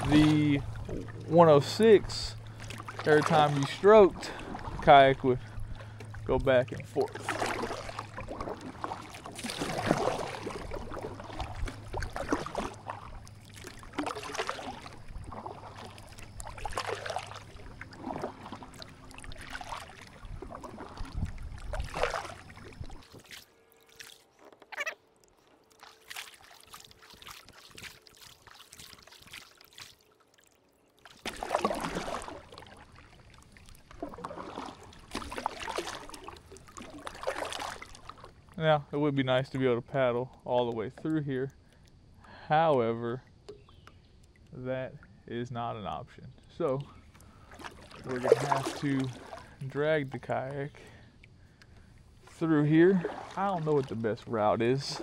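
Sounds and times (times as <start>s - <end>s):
kayak paddle splashing in water: 0.0s - 38.5s, 47.0s - 50.6s, 51.3s - 55.0s.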